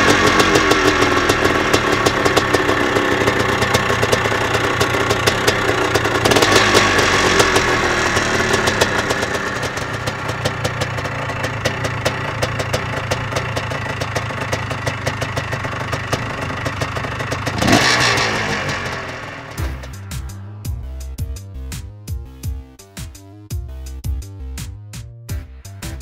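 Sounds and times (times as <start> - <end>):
dirt bike engine idling: 0.0 - 22.8.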